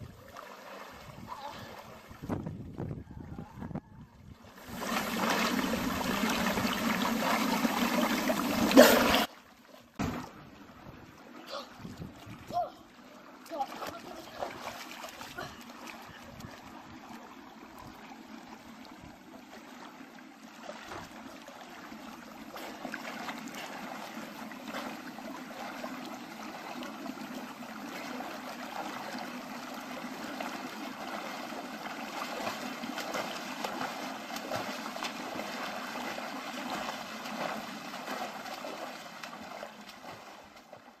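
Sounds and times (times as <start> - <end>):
pool water splashing: 0.0 - 3.2, 4.4 - 41.0.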